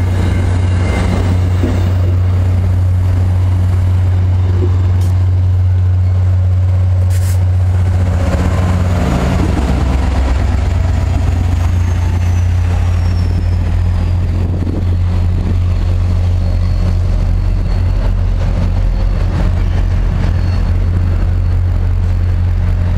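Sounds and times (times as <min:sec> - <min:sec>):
diesel locomotive idling: 0:00.0 - 0:22.9.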